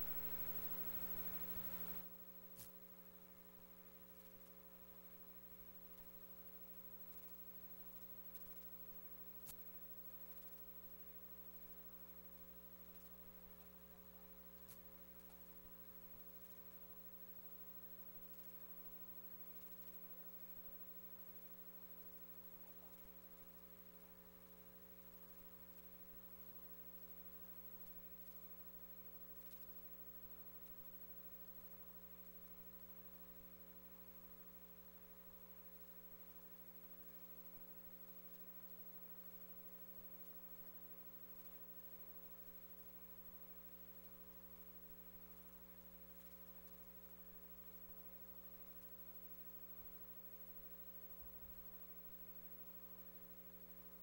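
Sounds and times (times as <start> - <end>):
faint electrical mains hum: 0.0 - 54.0
faint clicks: 3.9 - 54.0.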